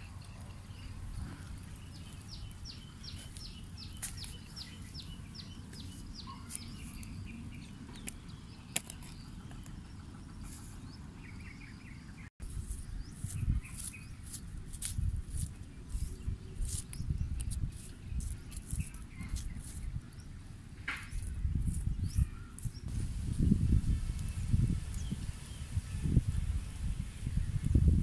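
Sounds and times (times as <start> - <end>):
bird chirping: 0.0 - 22.9.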